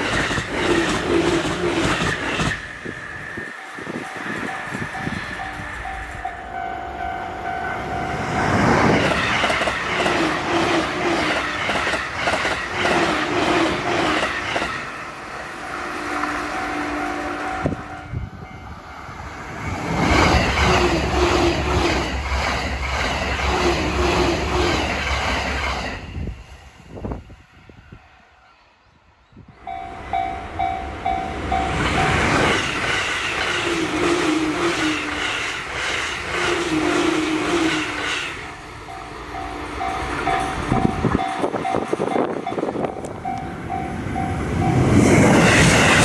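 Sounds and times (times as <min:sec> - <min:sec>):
rhythmic rail clatter: 0:00.0 - 0:27.9, 0:29.5 - 0:46.0
electric trains passing at speed: 0:00.0 - 0:46.0.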